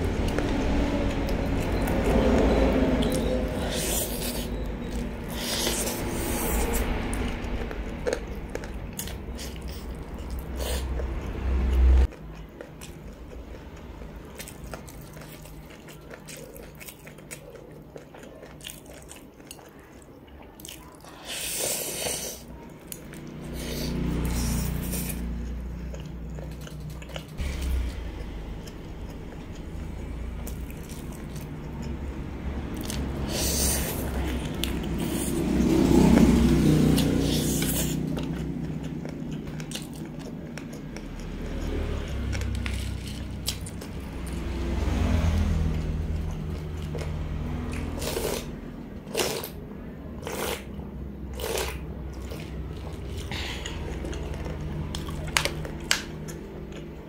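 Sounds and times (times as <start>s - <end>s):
chewing with wet mouth clicks: 0.0s - 21.4s, 22.0s - 27.4s, 28.2s - 49.6s, 50.2s - 57.0s.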